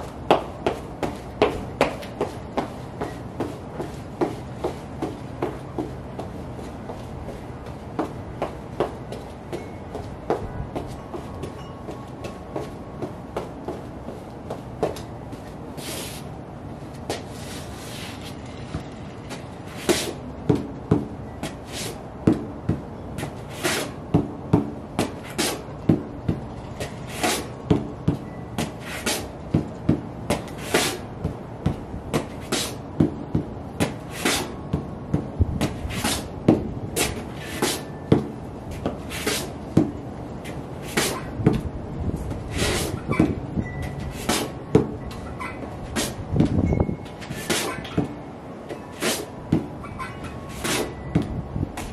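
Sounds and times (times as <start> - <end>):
boots tapping on concrete floor: 0.0 - 16.2, 16.9 - 46.6.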